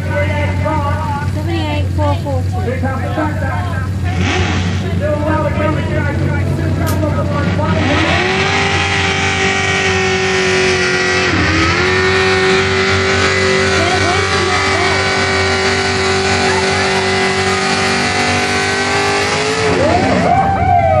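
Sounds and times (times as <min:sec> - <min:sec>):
tractor engine running hard: 0:00.0 - 0:21.0.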